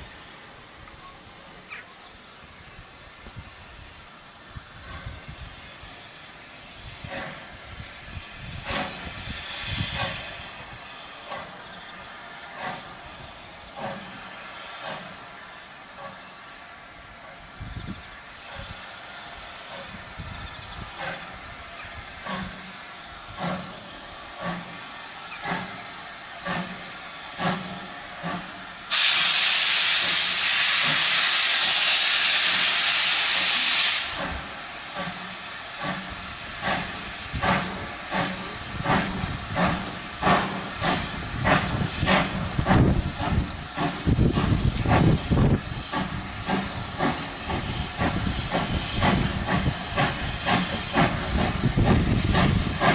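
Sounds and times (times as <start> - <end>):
loud steam hiss: 0.0 - 52.9
steam locomotive exhaust beats: 0.0 - 52.9.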